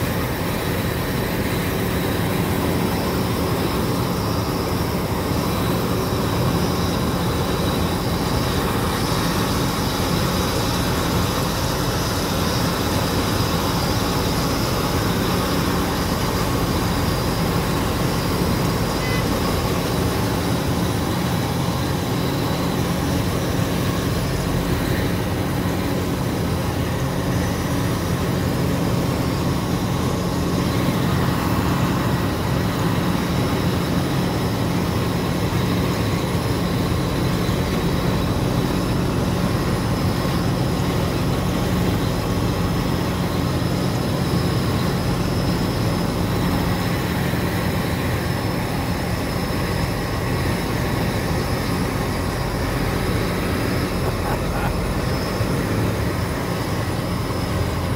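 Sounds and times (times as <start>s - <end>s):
harvester machinery noise: 0.0s - 57.9s
tractor diesel engine drone: 0.0s - 57.9s.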